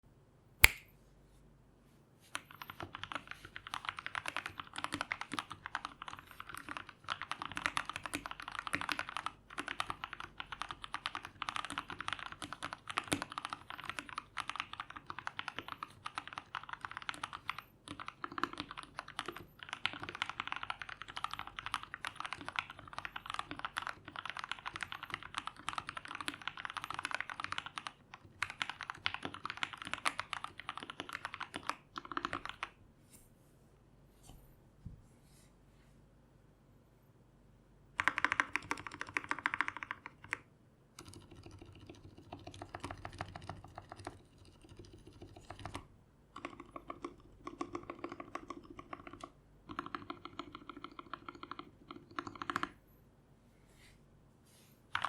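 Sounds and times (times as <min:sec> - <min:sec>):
mechanical keyboard typing: 0:02.3 - 0:32.8, 0:38.0 - 0:52.8.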